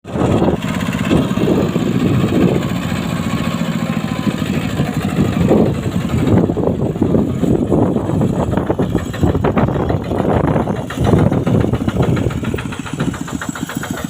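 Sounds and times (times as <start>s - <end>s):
bulldozer engine running: 0.0s - 14.0s.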